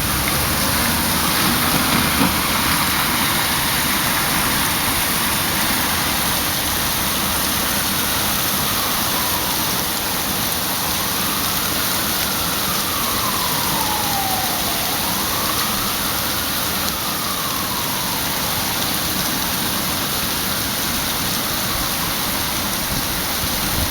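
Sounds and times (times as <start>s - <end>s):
distant siren wailing: 0.0s - 23.9s
heavy rain pouring: 0.0s - 23.9s.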